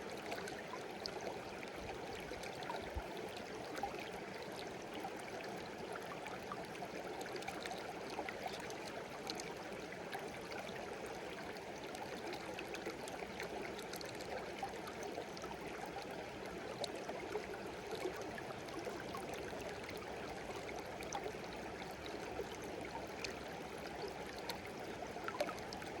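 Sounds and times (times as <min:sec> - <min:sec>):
stream babbling over stones: 0:00.0 - 0:26.0.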